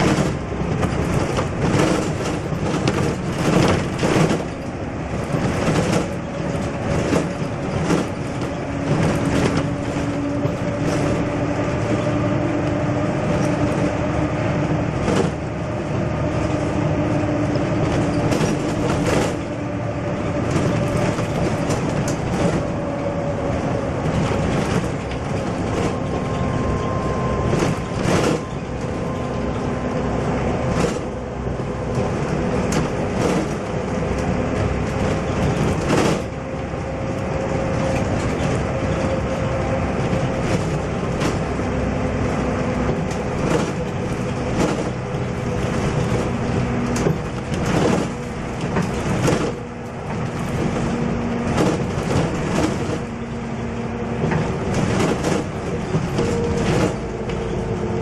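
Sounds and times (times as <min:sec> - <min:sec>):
bodywork knocks and rattles: 0:00.0 - 0:58.0
bus engine hum: 0:00.0 - 0:58.0
road noise: 0:00.0 - 0:58.0.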